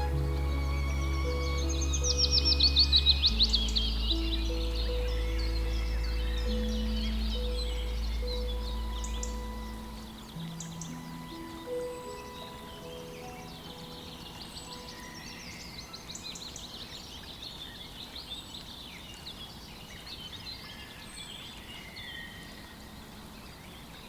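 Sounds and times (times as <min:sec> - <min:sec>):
outdoor ambience hiss: 0:00.0 - 0:24.0
small birds chirping: 0:00.0 - 0:24.0.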